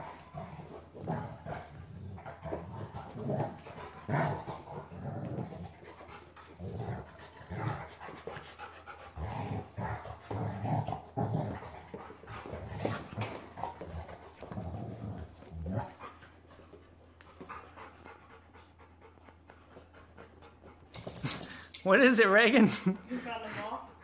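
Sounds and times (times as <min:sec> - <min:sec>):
dogs play growling: 0:00.0 - 0:21.8.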